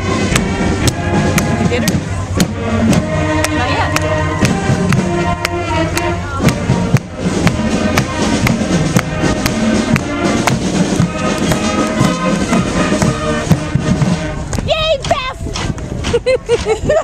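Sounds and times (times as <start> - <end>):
marching band brass horns: 0.0 - 16.2
marching drum beat: 0.0 - 17.0.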